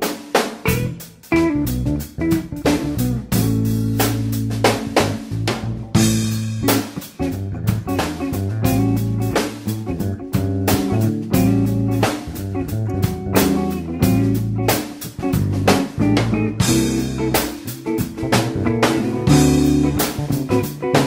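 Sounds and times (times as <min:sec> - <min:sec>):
instrumental guitar music: 0:00.0 - 0:21.0
steady drum beat: 0:00.0 - 0:21.0.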